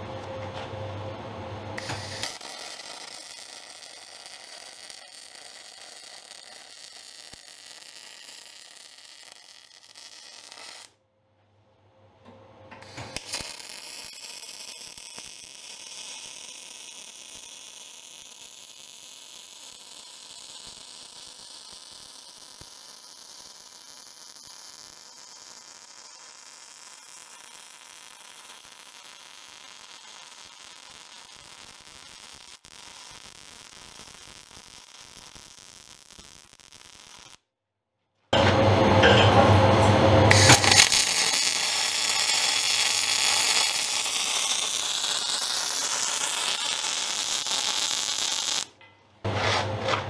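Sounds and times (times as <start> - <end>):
welder arc crackling and hissing: 1.7 - 11.0, 12.8 - 37.4, 39.6 - 48.8.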